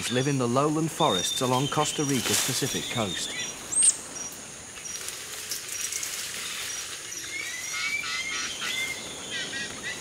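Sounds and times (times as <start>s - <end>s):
high insect hiss: 0.0s - 10.0s.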